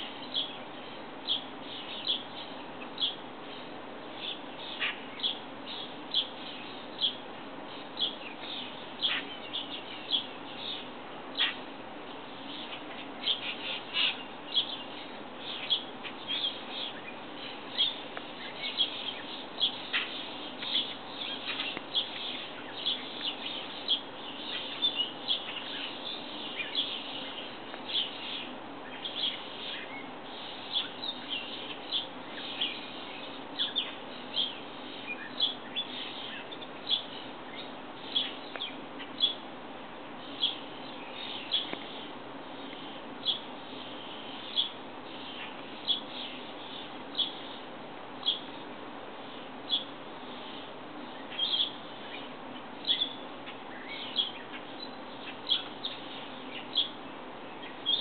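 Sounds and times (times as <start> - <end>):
small birds chirping: 0.0 - 58.0
steady background hiss: 0.0 - 58.0.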